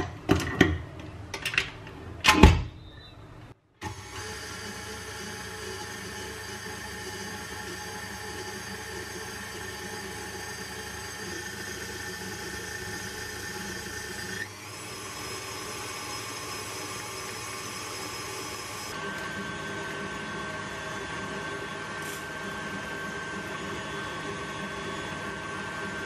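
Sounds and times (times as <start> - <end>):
stand mixer motor running: 3.9 - 26.0.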